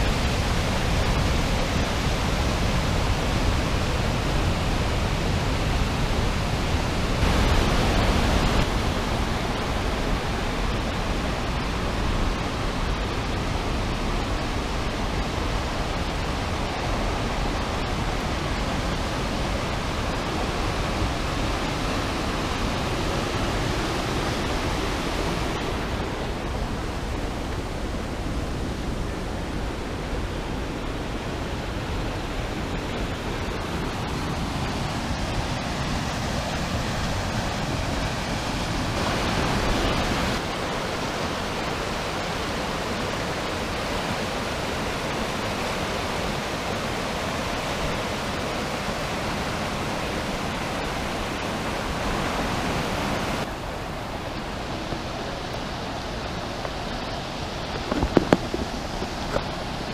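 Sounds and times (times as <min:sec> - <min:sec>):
stream rushing through rapids: 0:00.0 - 0:59.9.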